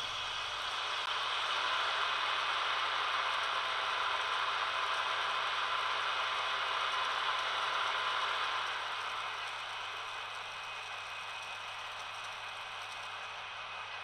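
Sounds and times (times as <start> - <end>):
model locomotive cooling fan whirring: 0.0 - 14.0.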